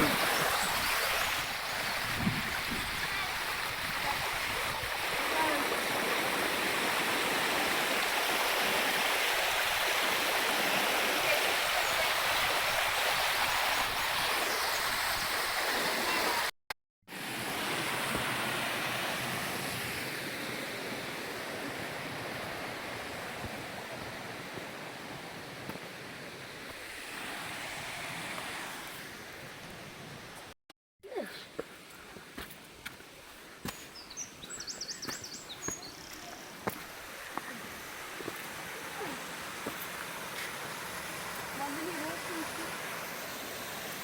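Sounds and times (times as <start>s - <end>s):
stream water rushing: 0.0s - 16.5s, 17.1s - 30.6s, 31.2s - 44.0s.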